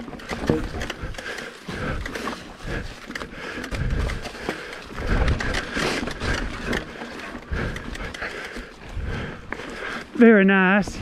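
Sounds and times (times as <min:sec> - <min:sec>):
bike rattling and knocking: 0:00.0 - 0:11.0.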